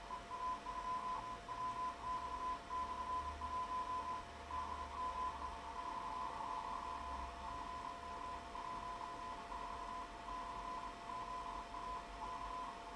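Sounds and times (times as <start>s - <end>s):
morse code tone: 0.0s - 12.8s
steady low carrier tone: 0.0s - 12.9s.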